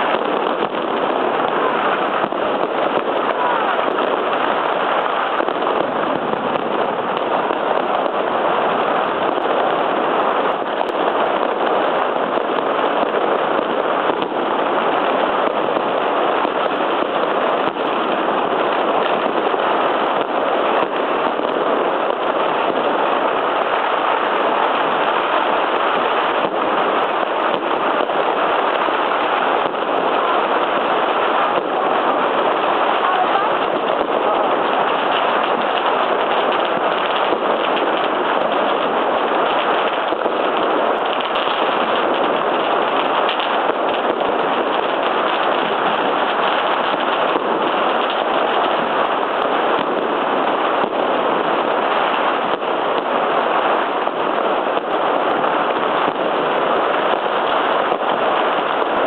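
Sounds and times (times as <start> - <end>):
firecrackers and fireworks banging: 0.0 - 59.0.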